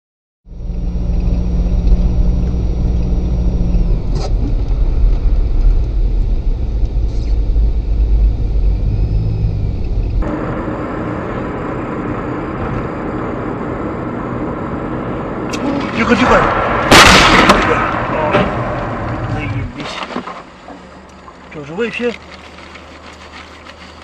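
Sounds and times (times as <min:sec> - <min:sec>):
car engine and road noise: 0:00.4 - 0:24.0.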